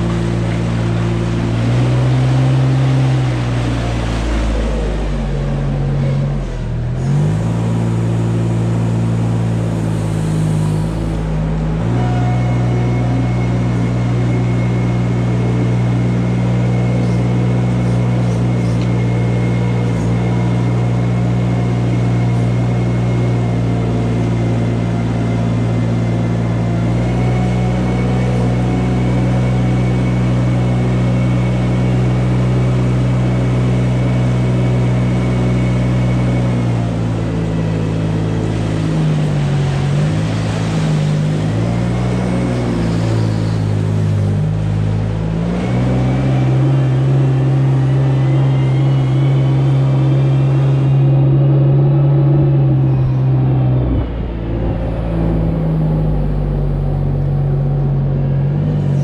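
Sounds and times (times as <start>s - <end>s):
loader engine running under load: 0.0s - 59.0s
thin steady whine: 0.0s - 59.0s.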